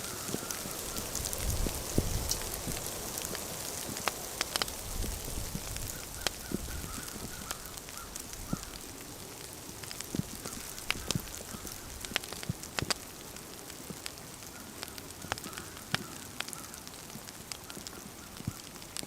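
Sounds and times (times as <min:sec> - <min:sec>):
campfire crackling and popping: 0:00.0 - 0:19.0
light rain pattering: 0:00.0 - 0:19.0.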